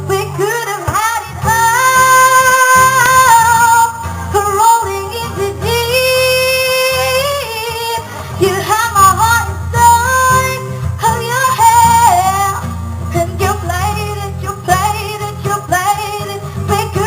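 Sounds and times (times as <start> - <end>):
guitar: 0.0 - 17.0
pop music with woman singing: 0.0 - 17.0.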